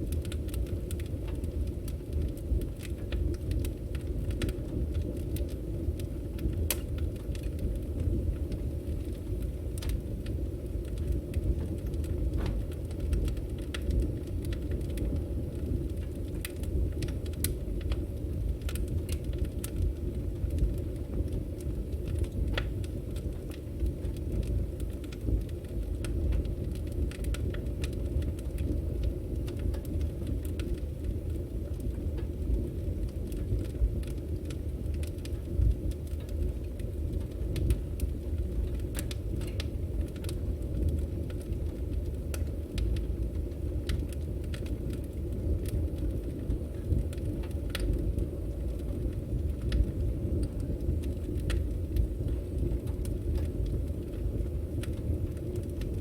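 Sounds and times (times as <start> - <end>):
fire rumbling: 0.0 - 56.0
logs crackling and popping: 0.0 - 56.0.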